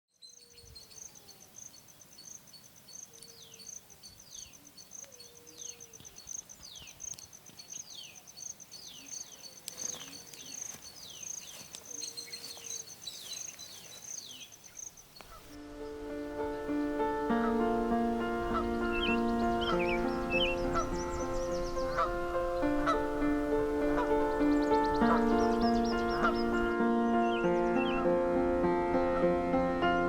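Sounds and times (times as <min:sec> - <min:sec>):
insect chirping: 0:00.2 - 0:26.7.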